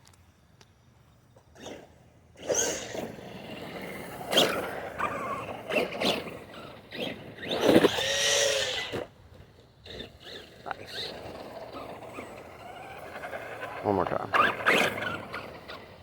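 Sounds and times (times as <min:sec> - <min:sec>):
rc truck electric motor whining: 0:01.3 - 0:16.0.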